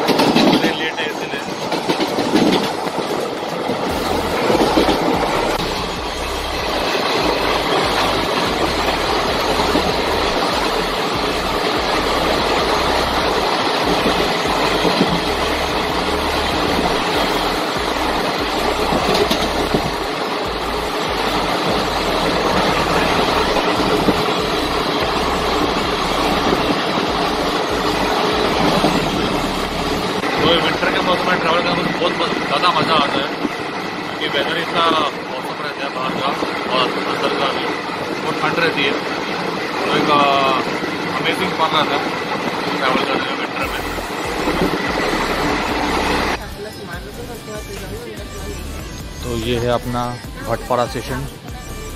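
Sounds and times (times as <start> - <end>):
train rumbling and rattling: 0.0 - 51.9.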